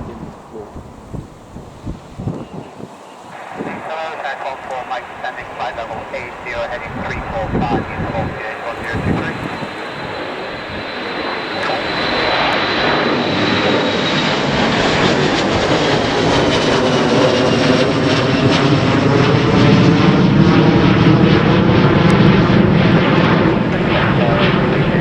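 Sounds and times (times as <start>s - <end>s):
airliner engines rumbling and whining: 0.0s - 25.0s.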